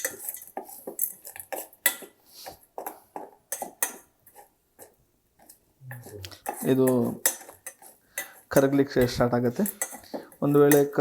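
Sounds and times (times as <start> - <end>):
metal spoon scraping in a pan: 0.0 - 11.0.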